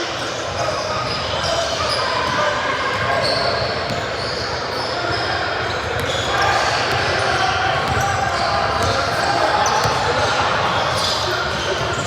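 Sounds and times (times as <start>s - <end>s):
voices of players and spectators: 0.0s - 12.0s
sneaker squeaks: 0.2s - 12.0s.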